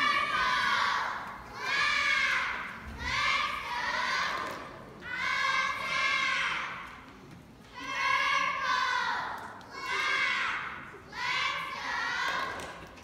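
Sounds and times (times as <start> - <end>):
girls shouting a cheer in unison: 0.0 - 7.1, 7.7 - 12.8.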